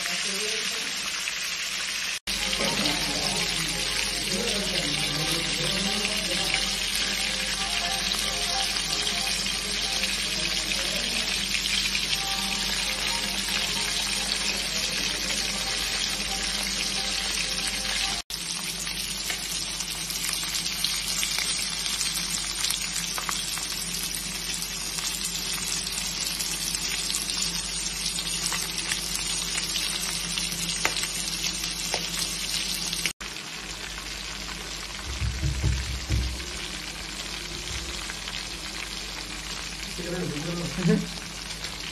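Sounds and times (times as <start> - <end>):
food deep-frying in hot oil: 0.0 - 41.9.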